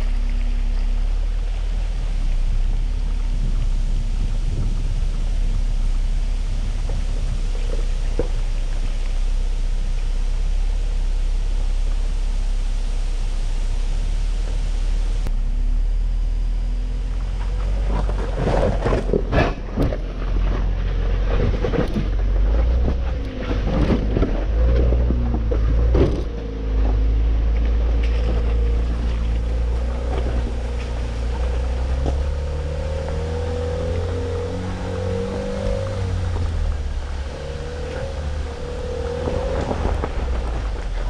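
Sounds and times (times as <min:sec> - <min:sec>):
truck engine running low: 0:00.0 - 0:41.0.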